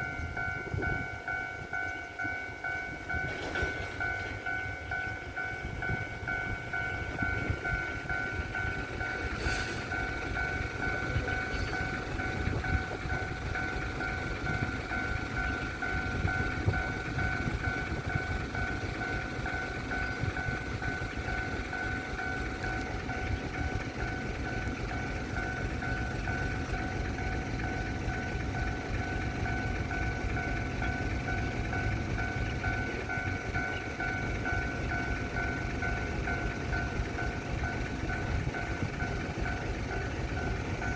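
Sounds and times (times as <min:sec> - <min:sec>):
level crossing warning bell: 0:00.0 - 0:40.9.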